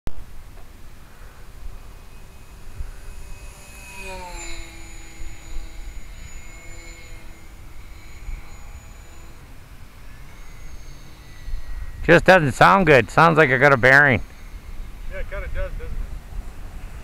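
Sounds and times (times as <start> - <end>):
rc plane electric motor whine: 0.3 - 17.0.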